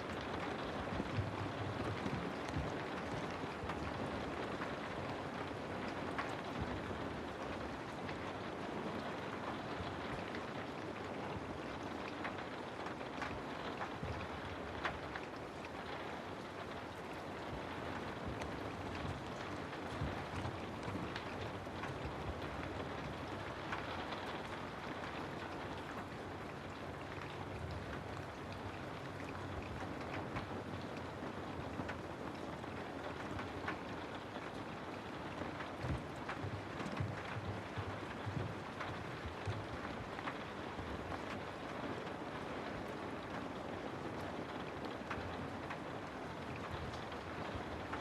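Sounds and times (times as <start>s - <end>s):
raindrops ticking on a surface: 0.0s - 48.0s
steady rainfall: 0.0s - 48.0s.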